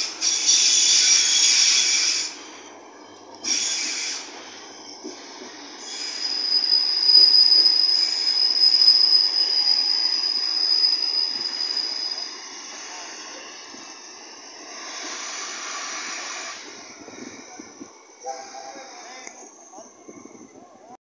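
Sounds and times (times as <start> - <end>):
freight train rolling past: 0.0 - 21.0
train wheels squealing: 0.0 - 21.0.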